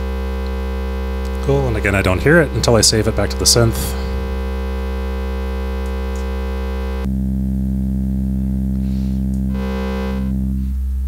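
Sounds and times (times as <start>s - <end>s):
synthesizer sustained note: 0.0s - 10.8s.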